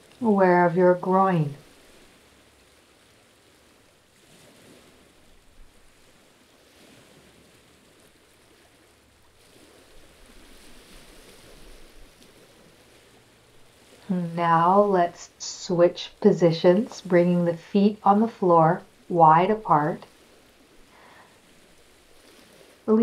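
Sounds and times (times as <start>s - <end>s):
sea water lapping on rocks: 1.6s - 17.2s, 18.0s - 23.0s.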